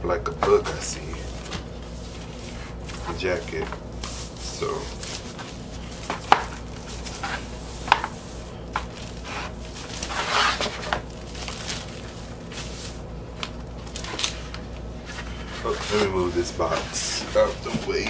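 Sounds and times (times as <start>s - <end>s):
plastic shrink wrap crinkling: 0.5s - 18.0s.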